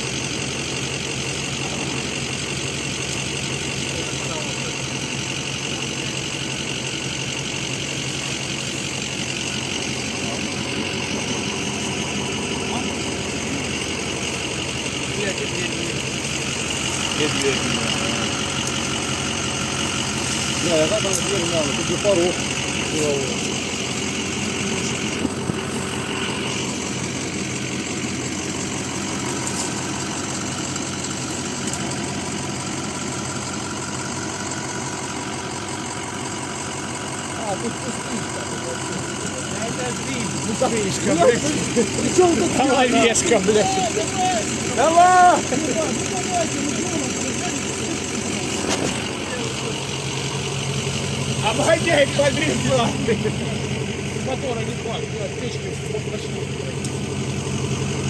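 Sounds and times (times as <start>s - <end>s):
vehicle engine running at low revs: 0.0s - 58.0s.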